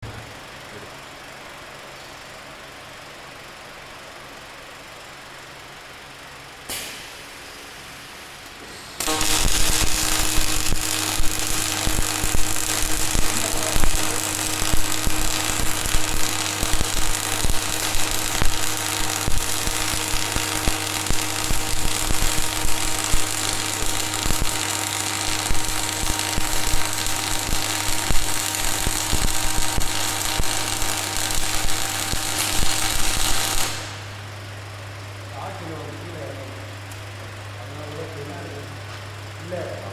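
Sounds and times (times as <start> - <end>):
welding arc crackling and buzzing: 6.6 - 39.9.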